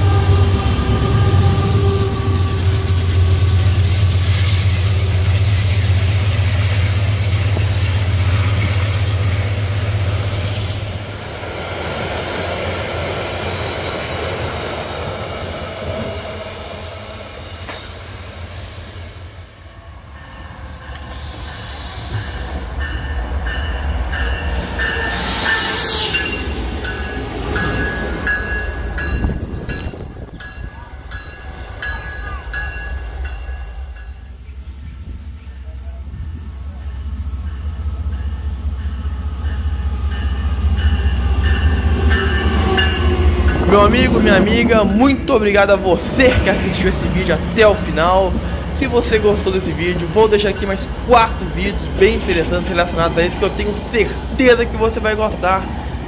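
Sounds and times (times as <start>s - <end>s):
diesel locomotive engine drone: 0.0s - 56.0s
diesel train approaching: 0.0s - 56.0s.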